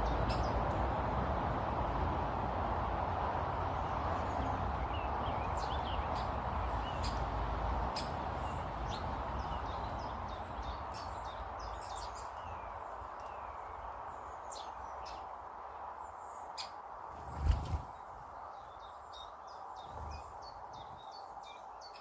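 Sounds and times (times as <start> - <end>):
garden birds chirping: 0.0 - 2.2, 2.9 - 22.0.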